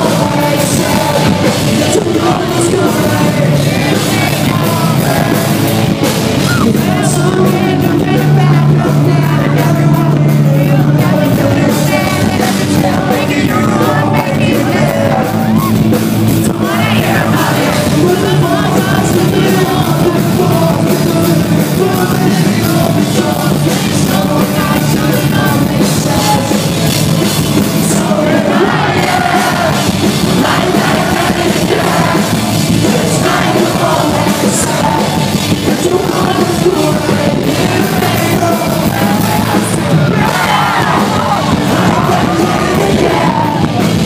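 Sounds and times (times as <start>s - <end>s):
person singing and yelling: 0.0s - 44.0s
rock band playing live: 0.0s - 44.0s.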